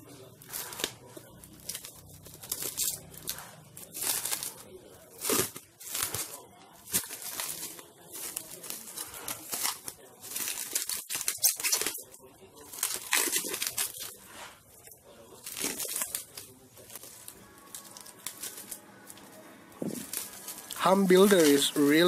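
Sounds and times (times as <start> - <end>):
plastic wrap crinkling and tearing: 0.0 - 22.0.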